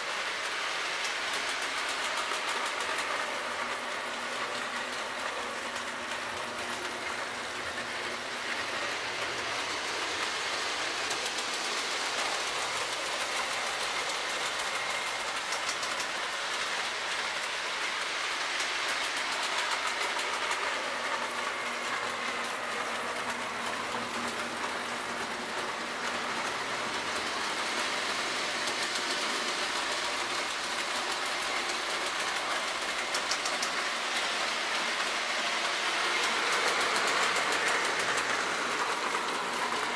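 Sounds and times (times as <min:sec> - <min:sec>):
model train motor whirring: 0:00.0 - 0:39.9
wheels rattling on rails: 0:00.0 - 0:39.9.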